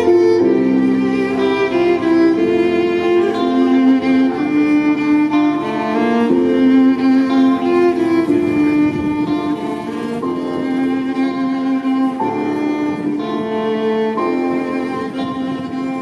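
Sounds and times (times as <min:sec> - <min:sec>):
violin slow melody: 0:00.0 - 0:16.0.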